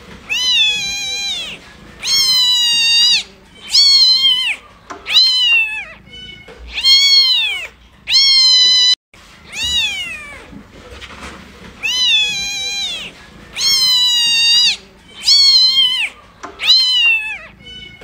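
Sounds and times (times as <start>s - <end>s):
kitten mewing: 0.3s - 10.6s, 11.8s - 18.0s.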